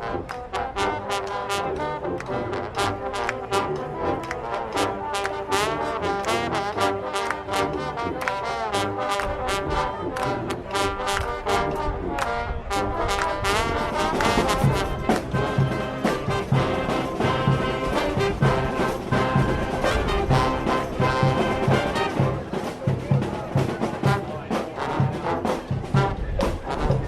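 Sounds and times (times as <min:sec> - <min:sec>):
brass music with percussive beat: 0:00.0 - 0:27.0.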